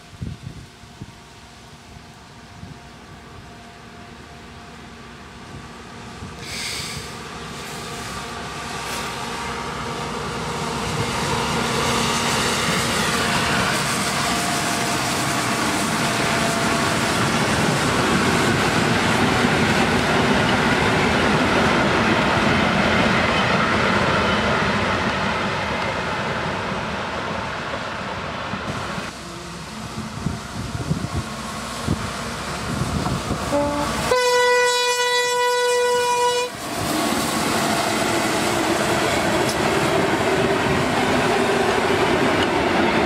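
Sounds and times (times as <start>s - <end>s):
diesel locomotive running past: 0.0s - 43.0s.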